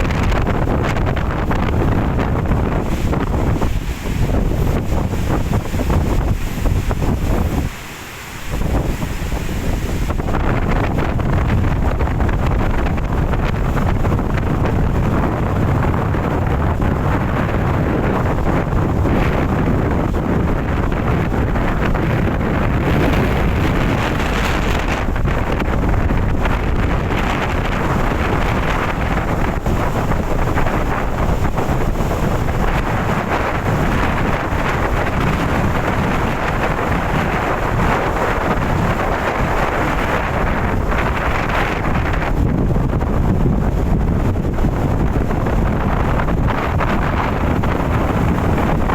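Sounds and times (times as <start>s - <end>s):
rough sea surf: 0.0s - 48.9s
wind buffeting microphone: 0.0s - 48.9s.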